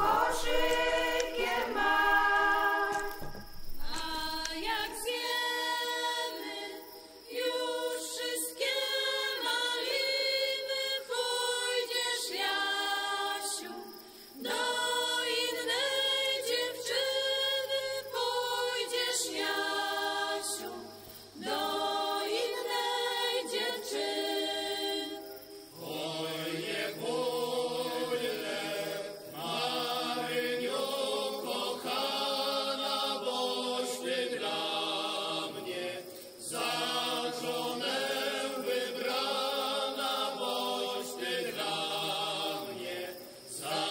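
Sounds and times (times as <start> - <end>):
group singing unaccompanied: 0.0 - 43.9
lower voices singing: 0.0 - 43.9.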